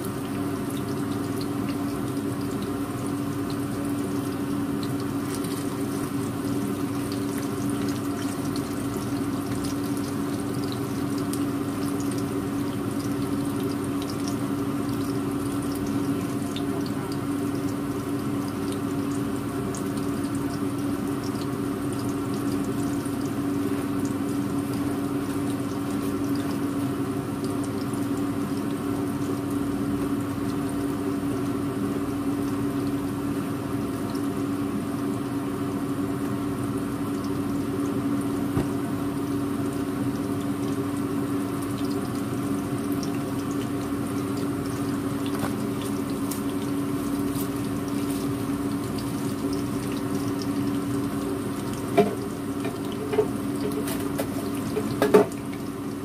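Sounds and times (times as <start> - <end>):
constant low hum: 0.0 - 26.7, 36.6 - 56.0
fish frying in oil: 0.0 - 56.0.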